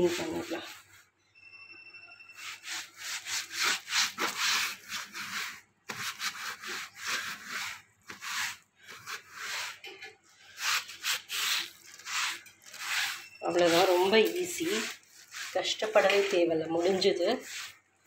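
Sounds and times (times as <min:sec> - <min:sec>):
cloth scrubbing wet plastic: 0:00.0 - 0:01.0, 0:02.4 - 0:09.9, 0:10.5 - 0:17.8.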